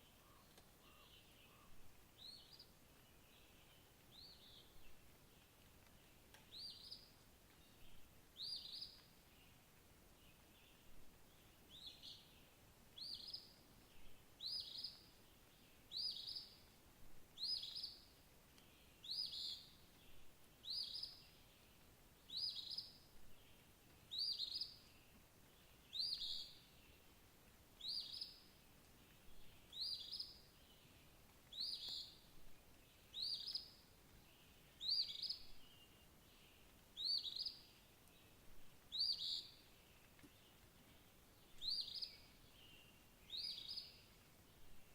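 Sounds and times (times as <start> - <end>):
faint background hiss: 0.0 - 44.9.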